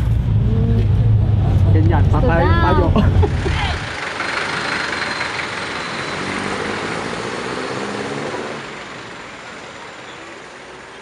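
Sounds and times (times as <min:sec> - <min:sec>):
city street traffic: 0:00.0 - 0:11.0
vehicle engine running nearby: 0:00.0 - 0:11.0.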